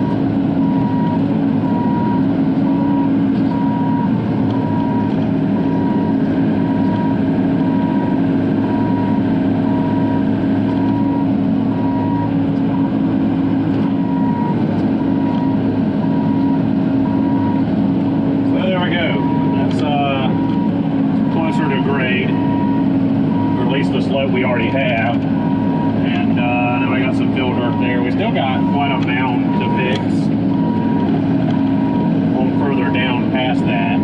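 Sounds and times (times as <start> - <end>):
high tone beeping: 0.0 - 13.1, 13.8 - 17.7, 18.5 - 34.0
excavator diesel engine running: 0.0 - 34.0.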